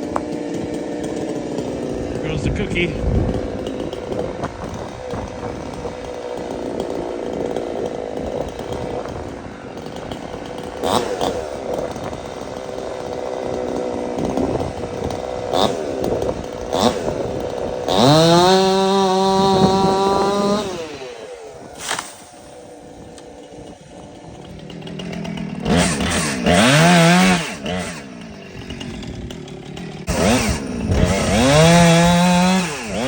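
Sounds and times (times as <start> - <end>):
chainsaw running: 0.0 - 33.0.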